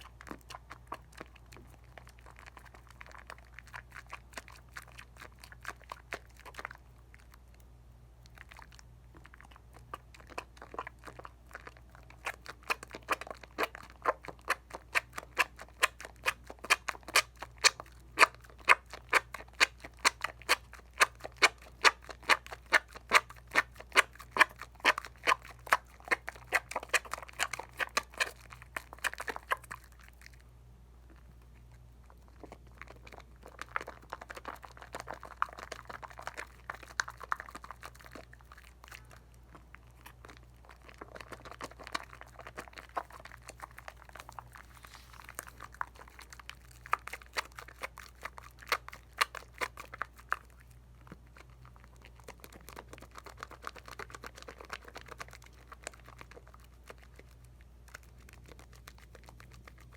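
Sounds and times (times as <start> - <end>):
faint low hum: 0.0 - 59.9
soap lather squishing and crackling: 0.0 - 59.9.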